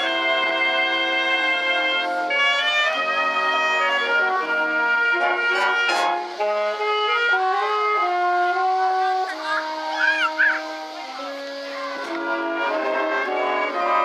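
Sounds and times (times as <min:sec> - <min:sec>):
wind band playing chords: 0:00.0 - 0:14.0.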